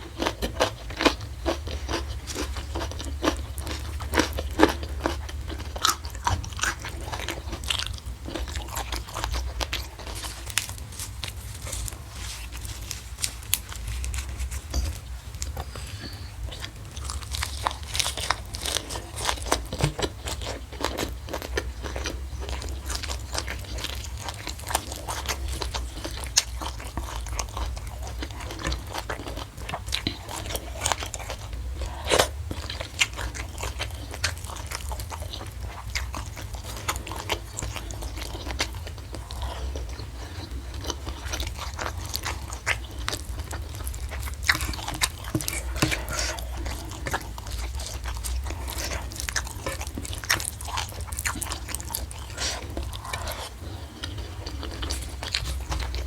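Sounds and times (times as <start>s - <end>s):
chewing crunchy food: 0.0s - 56.0s
steady low hum: 0.0s - 56.0s.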